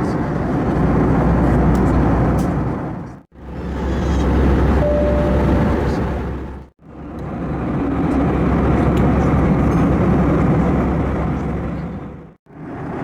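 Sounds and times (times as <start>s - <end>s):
jet engines and airflow: 0.0s - 13.0s.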